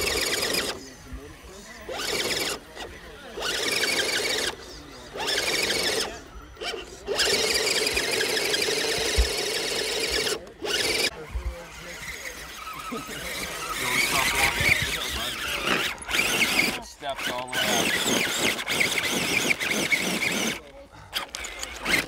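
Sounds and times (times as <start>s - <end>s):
toy truck motor whine: 0.0s - 22.0s.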